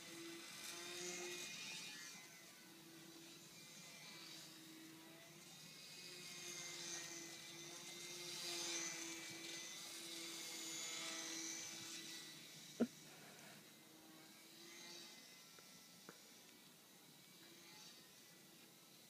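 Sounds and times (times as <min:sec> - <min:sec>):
model plane motor buzzing: 0:00.0 - 0:19.0.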